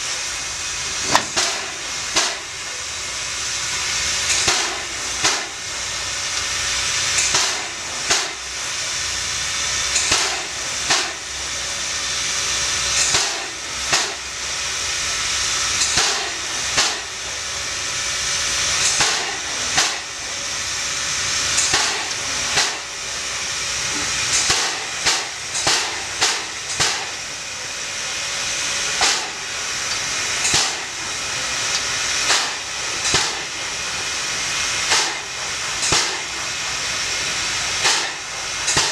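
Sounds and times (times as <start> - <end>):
steam hiss: 0.0 - 38.9
steam locomotive exhaust chuffs: 0.0 - 38.9.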